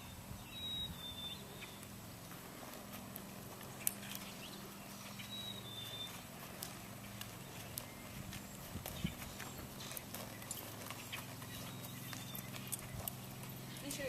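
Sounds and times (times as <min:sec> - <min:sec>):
steady low hum: 0:00.0 - 0:14.0
horse hooves walking: 0:01.0 - 0:14.0.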